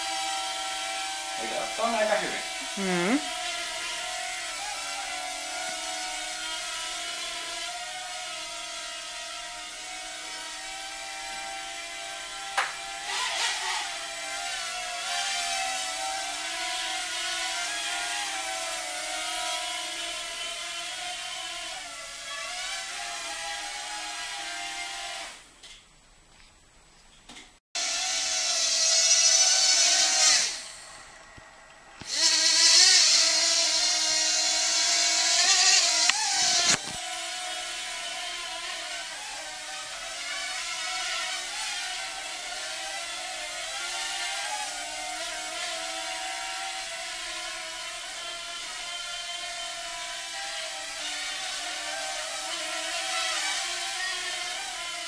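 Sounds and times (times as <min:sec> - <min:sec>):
quadcopter motors whining: 0:00.0 - 0:25.5, 0:27.8 - 0:55.0.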